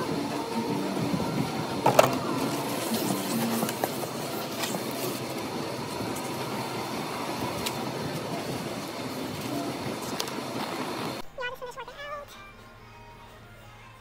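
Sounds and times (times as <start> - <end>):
exercise machines running: 0.0 - 14.0.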